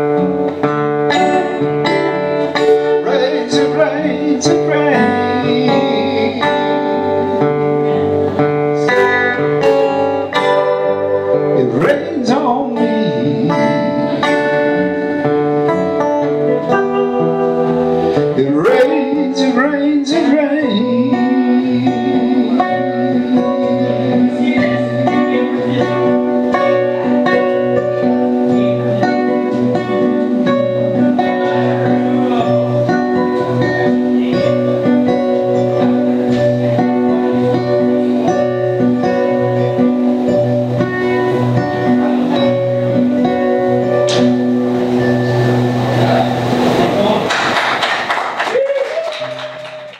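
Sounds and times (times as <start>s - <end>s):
acoustic guitars playing: 0.0s - 49.9s.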